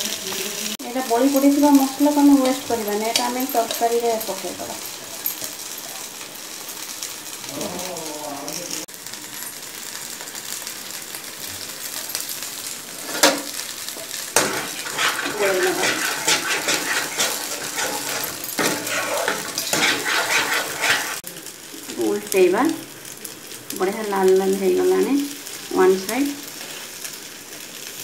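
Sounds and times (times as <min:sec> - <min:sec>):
frying sizzling and crackling: 0:00.0 - 0:28.0.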